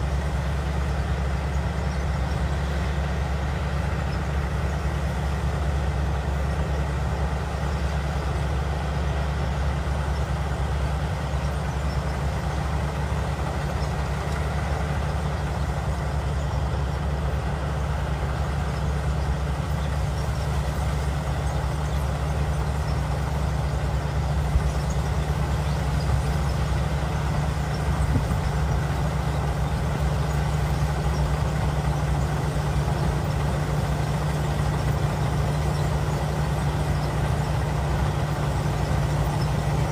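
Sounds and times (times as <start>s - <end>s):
harvester engine humming: 0.0s - 39.9s.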